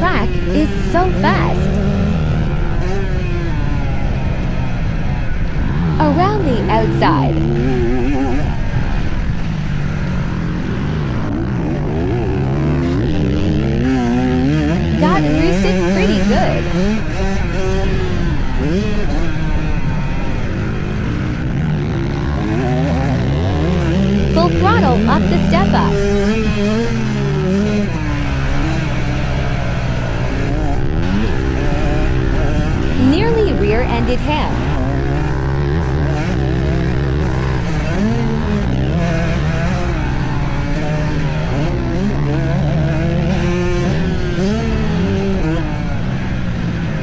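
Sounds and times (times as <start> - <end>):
dirt bike engine revving: 0.0 - 47.0
second dirt bike engine: 0.0 - 47.0.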